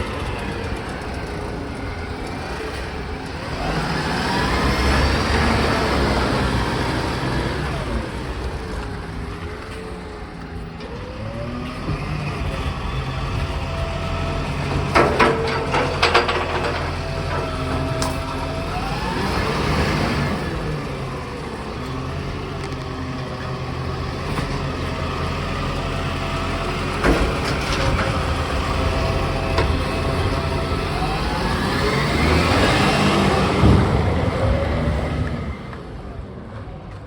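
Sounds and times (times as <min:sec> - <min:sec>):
garbage truck engine running: 0:00.0 - 0:37.0.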